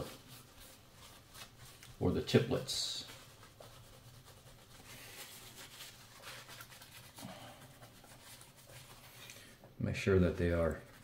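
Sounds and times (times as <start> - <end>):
cloth rubbing and scratching: 0.0 - 9.6.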